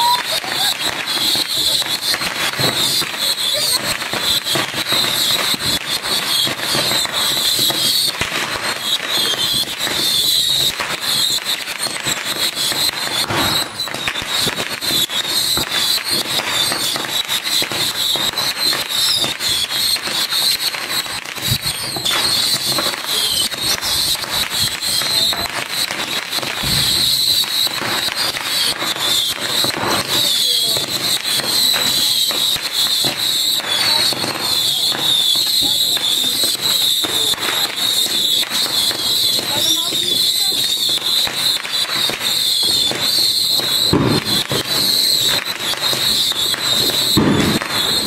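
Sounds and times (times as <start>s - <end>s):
crackle of launches and pops: 0.0s - 48.0s
shrill rocket whistle: 0.0s - 48.0s.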